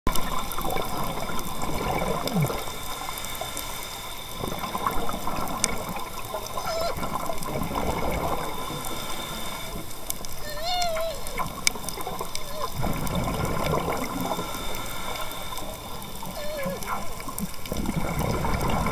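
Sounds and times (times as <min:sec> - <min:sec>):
underwater bubbling and gurgling: 0:00.1 - 0:18.9.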